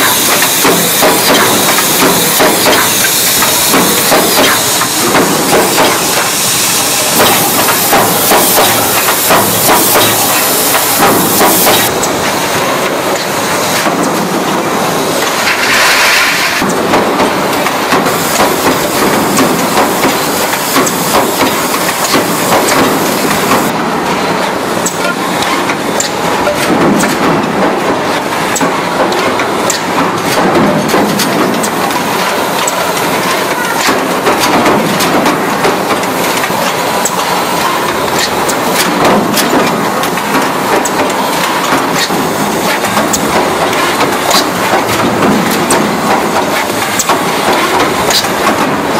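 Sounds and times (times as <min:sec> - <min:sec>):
machinery clatter with clicks: 0:00.0 - 0:48.9.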